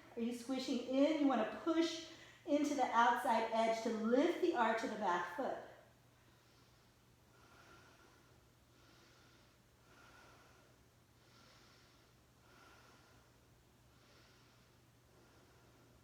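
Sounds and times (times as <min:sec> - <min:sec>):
low steady hum: 0:00.0 - 0:16.0
soft pulsing hiss: 0:00.0 - 0:16.0.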